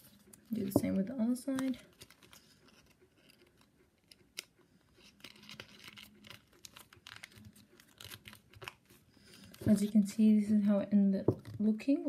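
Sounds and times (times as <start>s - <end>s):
paper crinkling and crackling: 0.0s - 10.8s.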